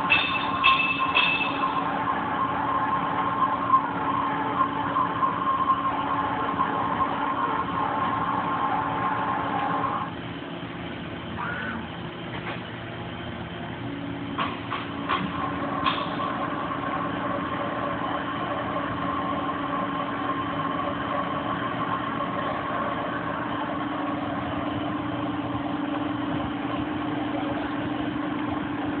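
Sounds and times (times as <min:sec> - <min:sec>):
lathe machine hum: 0:00.0 - 0:29.0
thin machine whine: 0:00.0 - 0:29.0.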